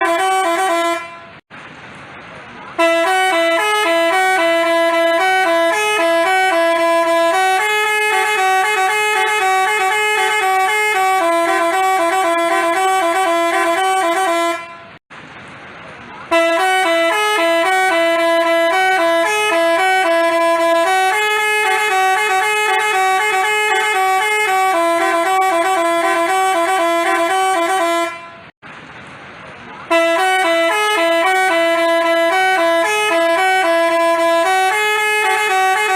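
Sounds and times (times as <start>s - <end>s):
multi-tone bus horn playing a tune: 0.0s - 1.4s, 2.7s - 15.0s, 16.3s - 28.6s, 29.9s - 35.9s.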